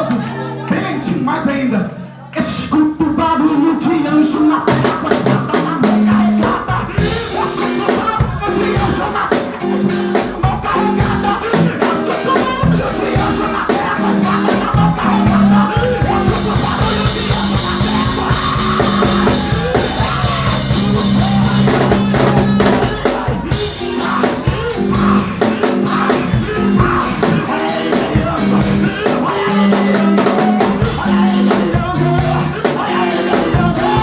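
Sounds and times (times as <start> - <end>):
drum kit: 0.0 - 2.1, 2.8 - 34.0
live worship music: 0.0 - 34.0
bass line: 2.7 - 34.0.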